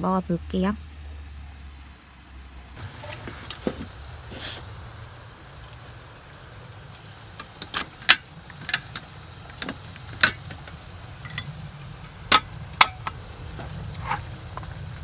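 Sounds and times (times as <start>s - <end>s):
steady low hum: 2.8s - 15.0s.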